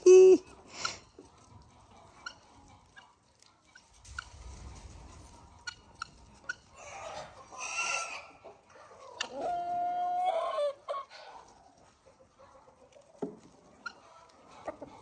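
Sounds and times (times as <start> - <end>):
poultry clucking and calling: 0.0 - 15.0.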